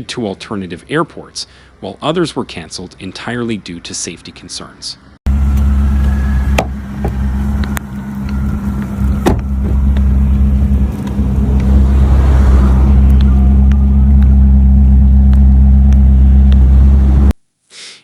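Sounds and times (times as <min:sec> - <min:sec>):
vehicle engine droning: 0:00.2 - 0:17.4.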